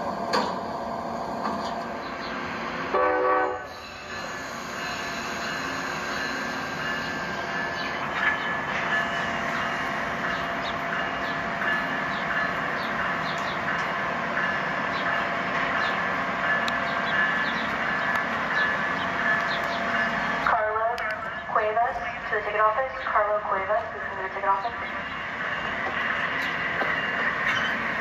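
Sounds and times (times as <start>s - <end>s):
train rolling: 0.0s - 28.0s.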